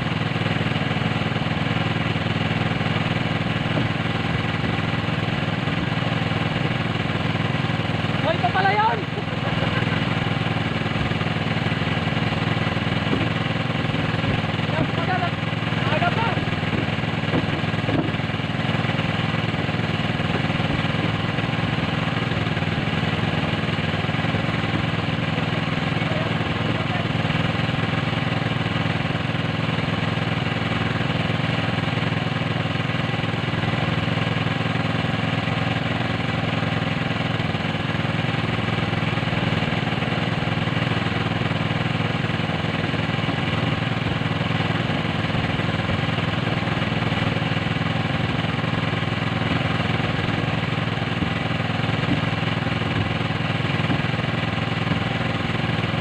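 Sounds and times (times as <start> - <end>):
small engine humming: 0.0 - 56.0.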